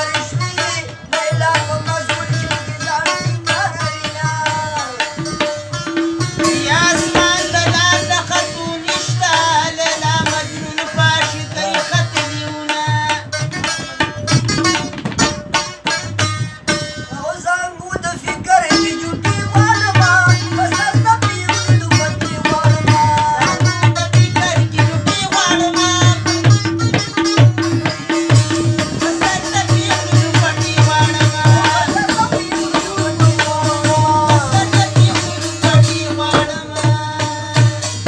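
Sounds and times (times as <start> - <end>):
man singing: 0.0 - 38.0
tabla rhythm: 0.0 - 38.0.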